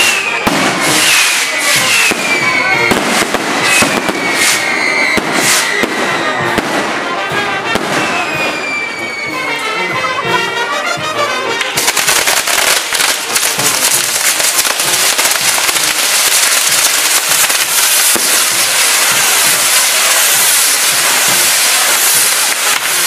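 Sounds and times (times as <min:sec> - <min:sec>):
firework falling whistle: 0:00.0 - 0:07.0, 0:07.7 - 0:09.6, 0:11.8 - 0:23.0
firecrackers crackling: 0:00.0 - 0:23.0.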